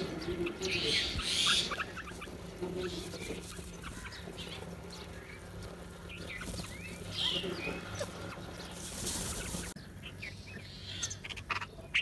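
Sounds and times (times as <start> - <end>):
birds chirping and squeaking: 0.0 - 12.0.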